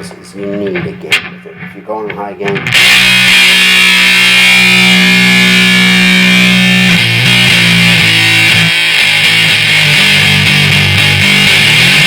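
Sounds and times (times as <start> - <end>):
distorted electric guitar: 0.0 - 12.0.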